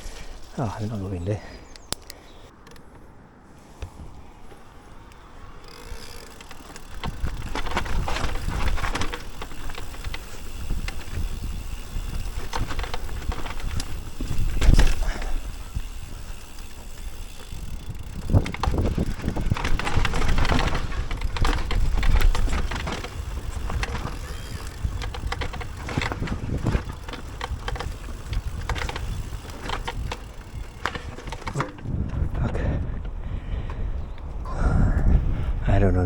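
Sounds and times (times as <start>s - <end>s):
bike rattling over rough trail: 0.0s - 3.0s, 3.9s - 34.7s.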